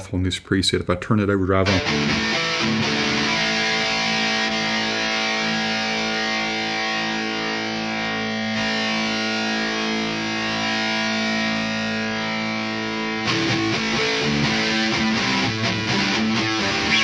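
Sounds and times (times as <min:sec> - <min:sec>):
distorted electric guitar chord: 0:01.7 - 0:17.0.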